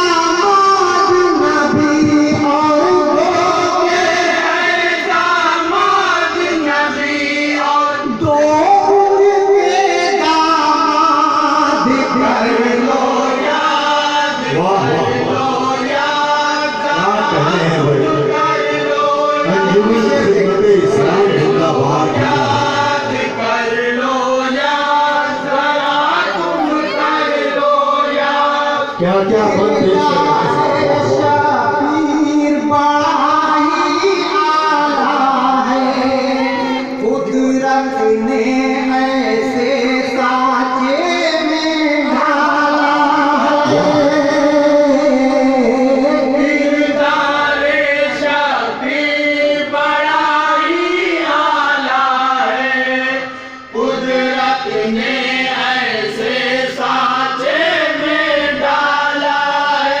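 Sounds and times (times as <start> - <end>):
man singing into a microphone: 0.0 - 60.0.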